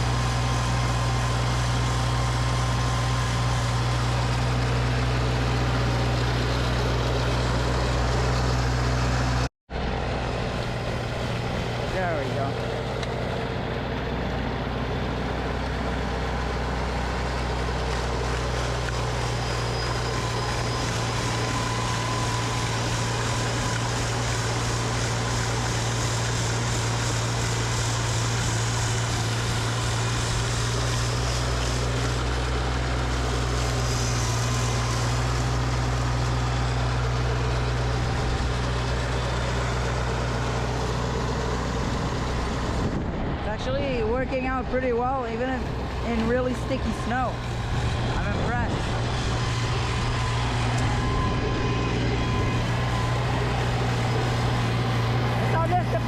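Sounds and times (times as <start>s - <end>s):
tractor engine drone: 0.0s - 56.0s.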